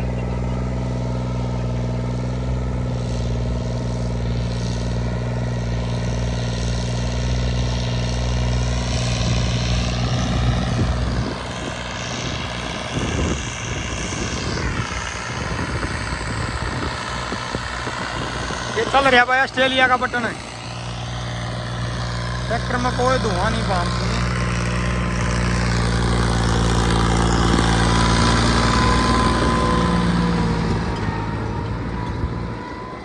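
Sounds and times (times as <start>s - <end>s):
tractor diesel engine droning: 0.0s - 33.0s.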